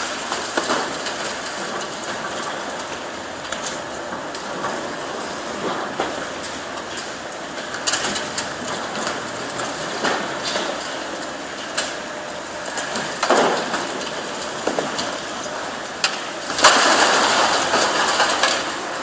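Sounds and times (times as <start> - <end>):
concrete cracking and crushing: 0.0 - 19.0
demolition excavator machine noise: 0.0 - 19.0
falling concrete breaking: 0.0 - 19.0.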